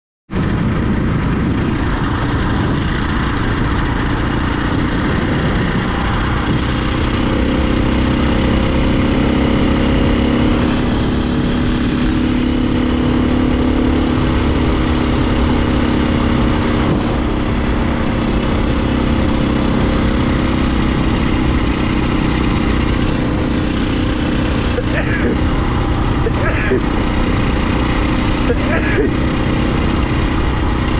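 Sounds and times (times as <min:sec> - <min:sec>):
dirt bike engine droning: 0:00.3 - 0:30.9
wind rush on microphone: 0:00.3 - 0:30.9.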